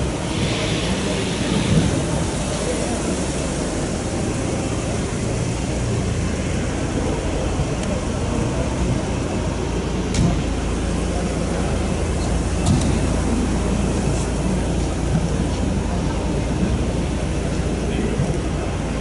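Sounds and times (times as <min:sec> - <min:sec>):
din of indistinct voices: 0:00.0 - 0:19.0.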